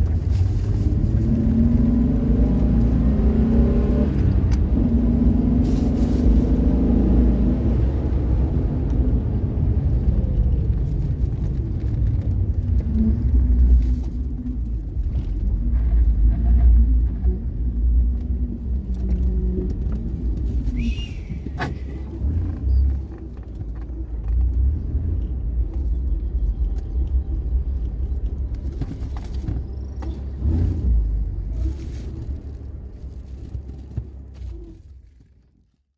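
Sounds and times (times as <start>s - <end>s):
car engine deep low rumble: 0.0s - 35.9s.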